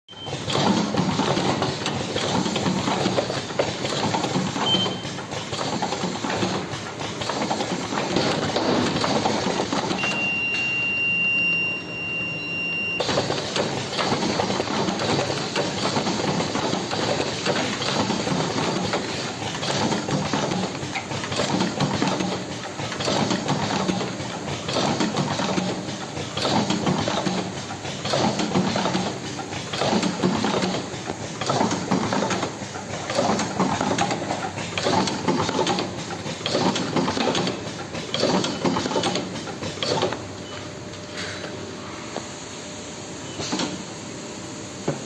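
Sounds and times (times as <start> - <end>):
packing machine clattering: 0.1 - 10.7, 13.0 - 40.3.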